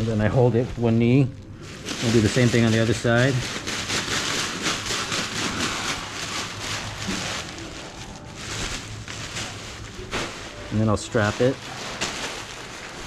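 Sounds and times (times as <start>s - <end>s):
nylon fabric rustling and crinkling: 0.0s - 13.0s.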